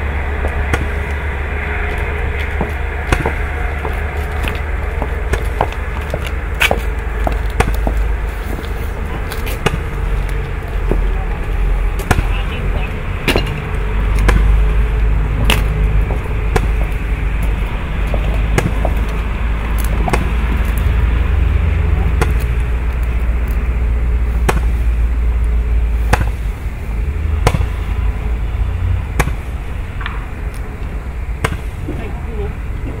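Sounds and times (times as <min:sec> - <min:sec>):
low rumble: 0:00.0 - 0:33.0.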